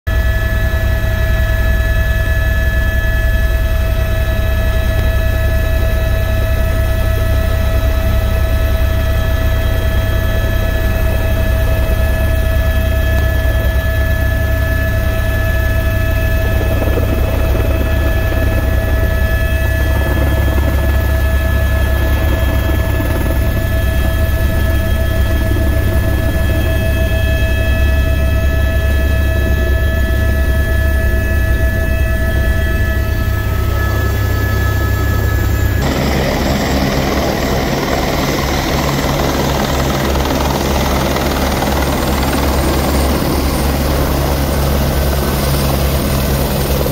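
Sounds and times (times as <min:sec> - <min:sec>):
helicopter engine and rotor: 0:00.1 - 0:46.9.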